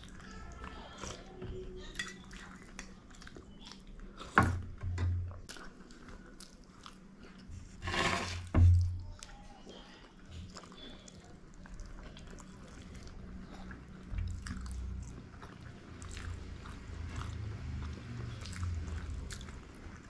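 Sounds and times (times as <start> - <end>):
chewing: 0.0 - 4.4, 5.3 - 7.7, 9.0 - 20.0.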